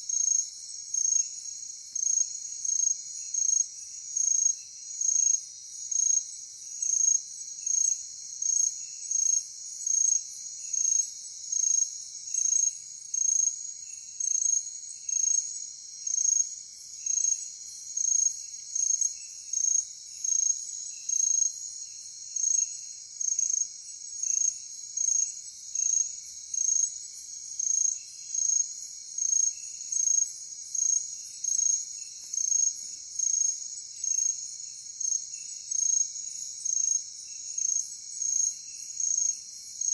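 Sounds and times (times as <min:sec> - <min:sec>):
loud high insect chirp: 0:00.0 - 0:39.9.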